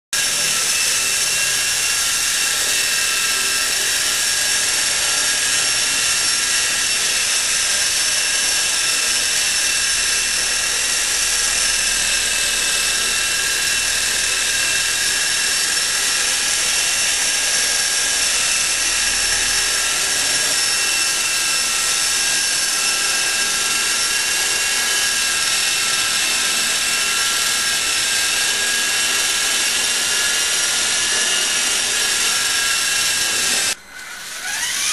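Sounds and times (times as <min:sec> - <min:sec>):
high-pitched motor whine: 0:00.2 - 0:34.9
rotor whir: 0:00.2 - 0:34.9.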